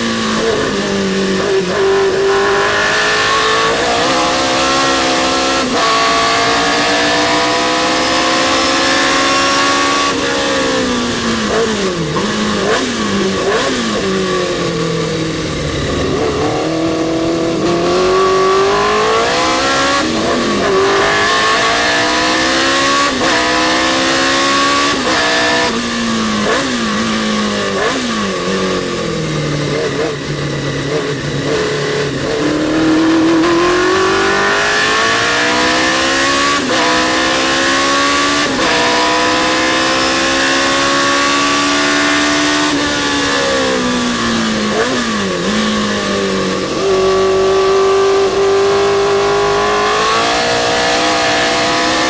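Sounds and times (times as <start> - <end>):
racing car engine at full throttle: 0.0 - 52.0.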